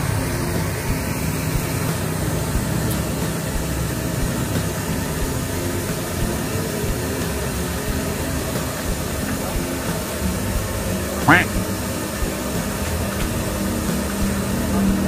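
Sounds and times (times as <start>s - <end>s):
road traffic hum and hiss: 0.0s - 15.0s.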